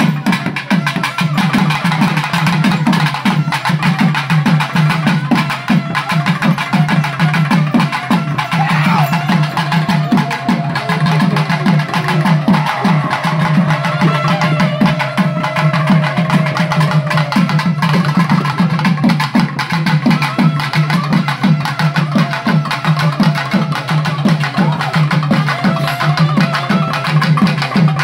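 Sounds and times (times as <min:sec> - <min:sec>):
fast drum beats: 0:00.0 - 0:28.0.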